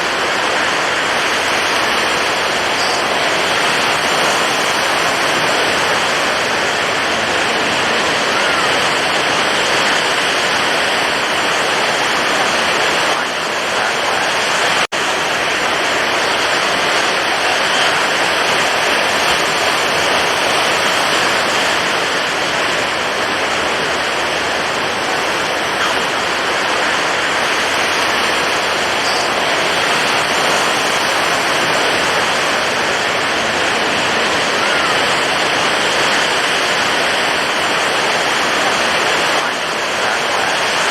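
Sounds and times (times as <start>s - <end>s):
heavy ocean waves: 0.0s - 40.9s.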